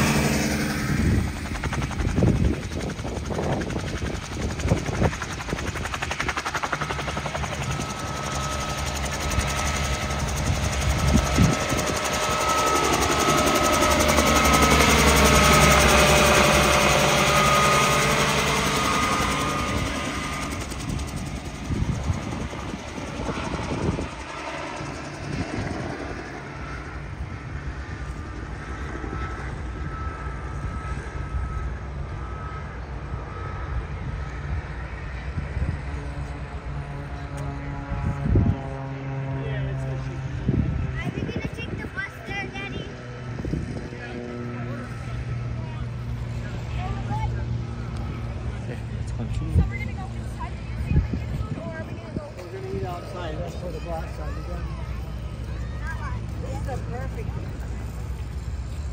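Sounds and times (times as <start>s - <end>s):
helicopter flying past: 0.0s - 58.9s.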